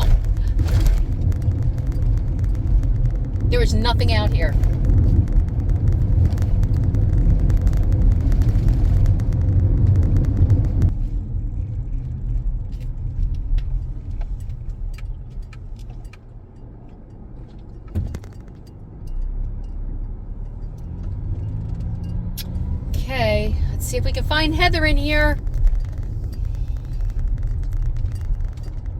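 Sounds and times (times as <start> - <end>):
car tyre and engine rumble: 0.0 - 28.9.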